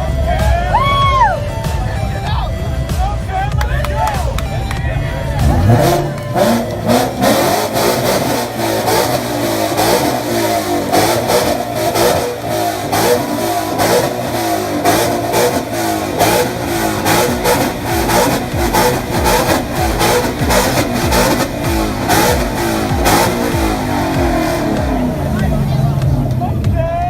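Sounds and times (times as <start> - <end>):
car engines revving loudly: 0.0 - 27.0.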